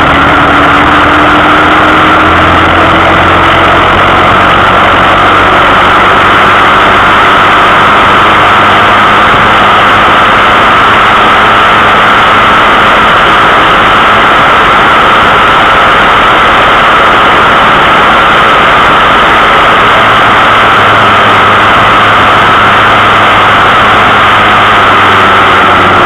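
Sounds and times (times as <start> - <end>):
overdriven engine noise: 0.0 - 26.0
wind noise: 0.0 - 26.0.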